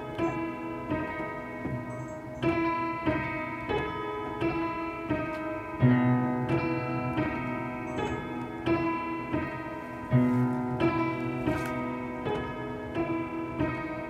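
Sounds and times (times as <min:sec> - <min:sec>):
slow keyboard chords: 0:00.0 - 0:14.0.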